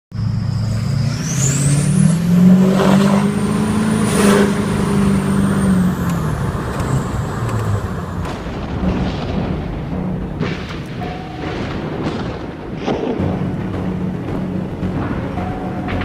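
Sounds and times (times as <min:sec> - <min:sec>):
diesel engine revving: 0:00.1 - 0:16.0.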